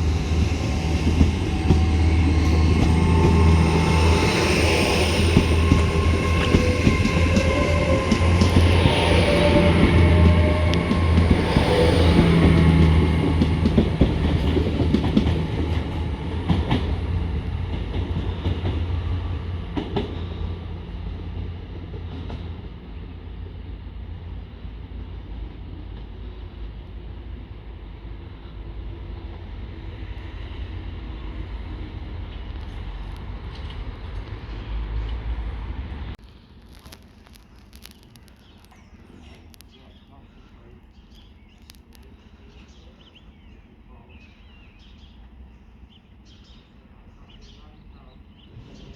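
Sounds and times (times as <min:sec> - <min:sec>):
train engine and wheels rattling: 0:00.0 - 0:48.9.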